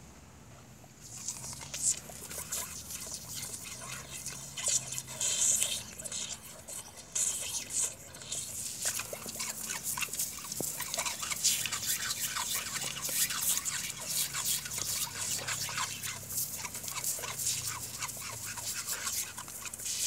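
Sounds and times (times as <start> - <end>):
dog lapping water: 1.0 - 20.0
water splashing: 1.2 - 20.0.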